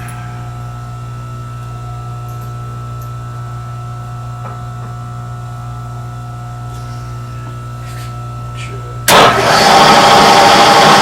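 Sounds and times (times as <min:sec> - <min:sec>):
milling machine humming: 0:00.0 - 0:11.0.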